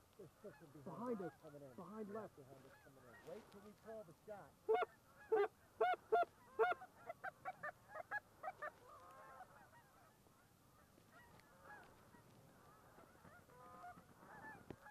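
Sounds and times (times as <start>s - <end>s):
flock of geese calling: 0.0s - 14.9s
geese honking: 0.1s - 14.9s.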